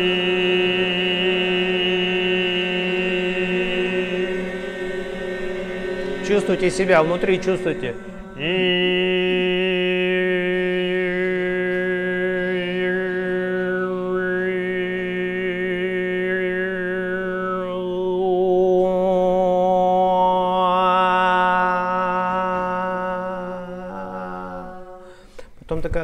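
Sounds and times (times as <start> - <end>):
man throat singing drone: 0.0 - 25.5.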